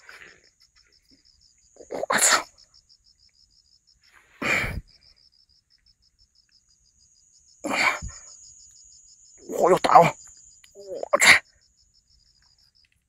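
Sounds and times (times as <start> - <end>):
crickets chirping: 0.0 - 13.0
high insect trill: 0.0 - 13.0.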